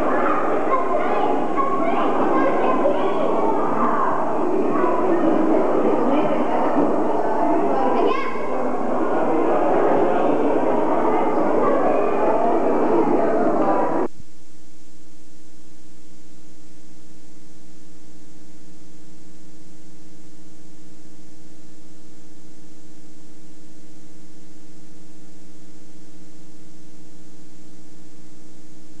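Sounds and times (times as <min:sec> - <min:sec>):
electrical hum and buzz: 0:00.0 - 0:29.0.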